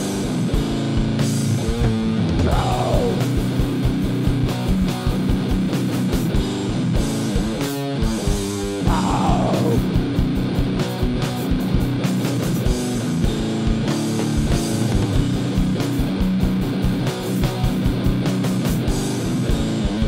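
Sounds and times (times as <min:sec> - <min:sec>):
heavy rock song: 0:00.0 - 0:20.0.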